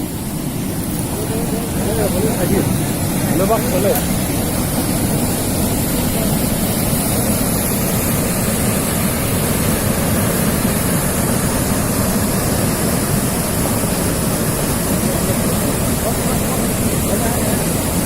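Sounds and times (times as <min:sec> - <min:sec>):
sea waves: 0:00.0 - 0:18.0.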